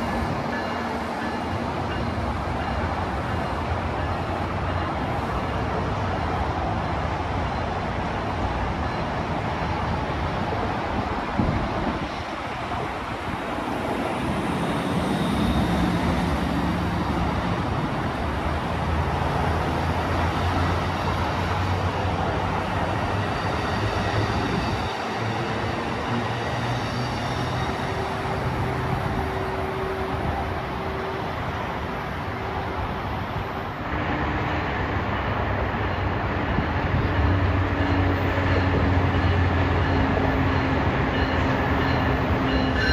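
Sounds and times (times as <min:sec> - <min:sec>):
train cars rolling on rails: 0:00.0 - 0:42.9.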